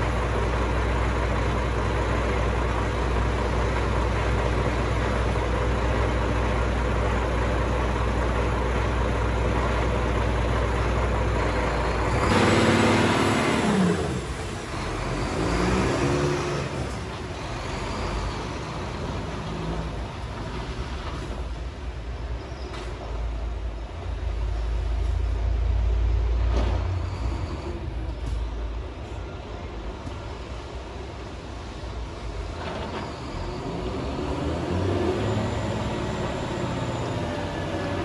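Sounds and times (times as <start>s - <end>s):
diesel truck engine: 0.0s - 38.0s.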